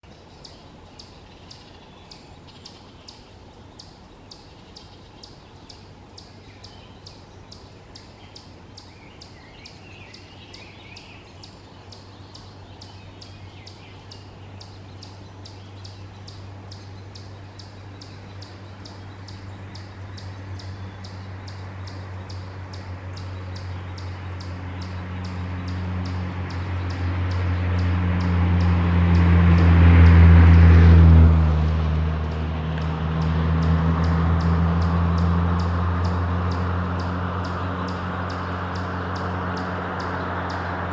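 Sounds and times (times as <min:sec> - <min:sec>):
approaching vehicle engine hum: 0:00.0 - 0:40.9.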